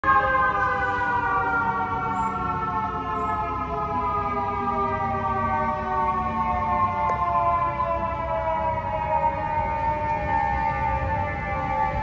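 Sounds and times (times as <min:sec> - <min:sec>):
fire truck siren: 0:00.0 - 0:12.0
low street traffic rumble: 0:00.0 - 0:12.0.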